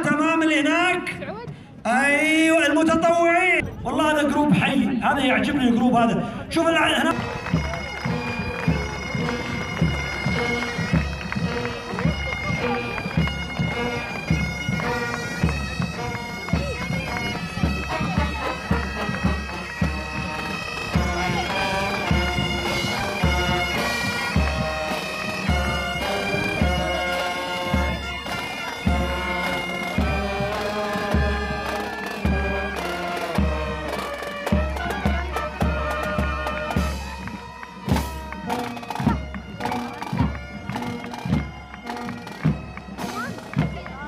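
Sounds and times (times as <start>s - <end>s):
bagpipes playing a tune: 7.1s - 44.0s
steady drum beat: 7.1s - 44.0s.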